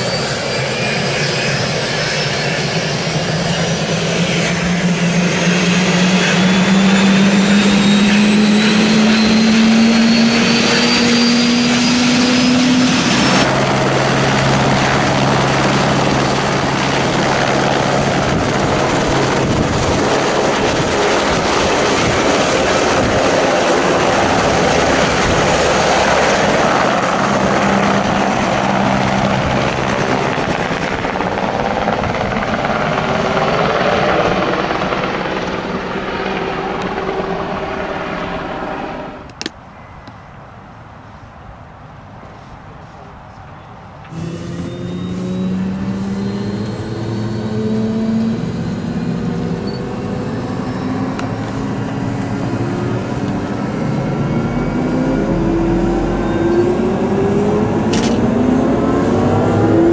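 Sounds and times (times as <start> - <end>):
helicopter turbine and rotor: 0.0 - 40.0, 43.6 - 59.9.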